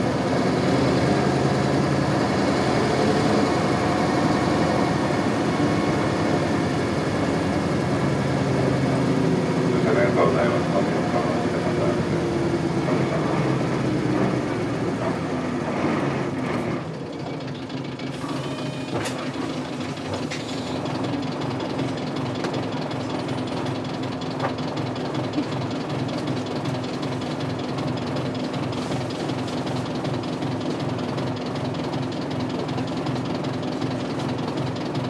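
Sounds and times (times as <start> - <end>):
diesel bus engine idling roughly: 0.0 - 35.0.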